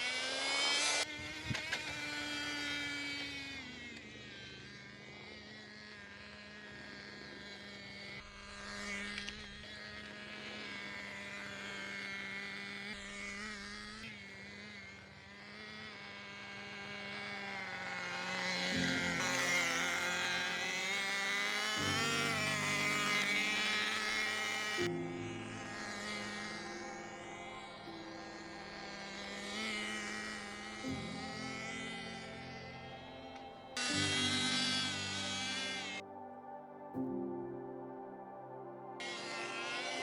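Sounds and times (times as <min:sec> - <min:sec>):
rc car engine buzzing: 0:00.0 - 0:36.0, 0:39.0 - 0:40.0.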